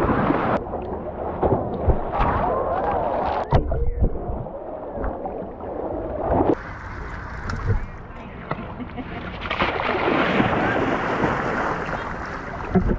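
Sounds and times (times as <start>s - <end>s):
water splashing and sloshing: 0.0s - 12.9s.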